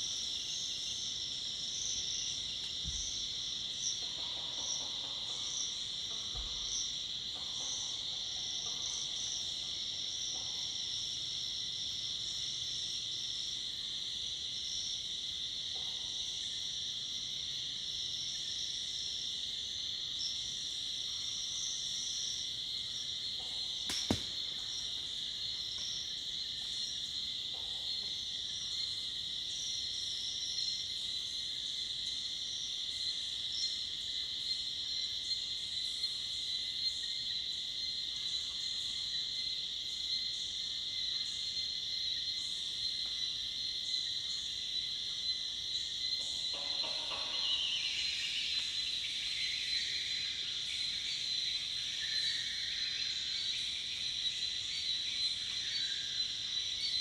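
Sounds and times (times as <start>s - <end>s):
crickets and cicadas chirring: 0.0s - 57.0s.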